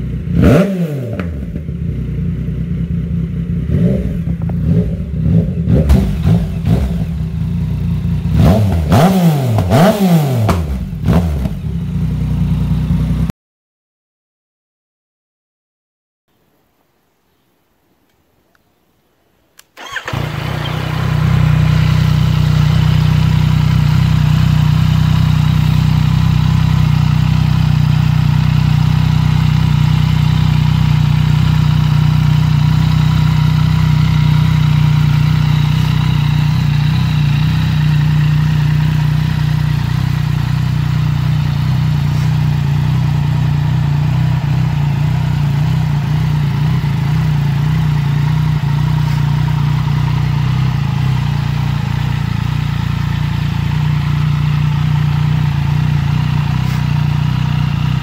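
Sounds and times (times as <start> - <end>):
motorcycle engine idling: 0.0 - 0.6, 1.2 - 13.3, 19.8 - 58.0.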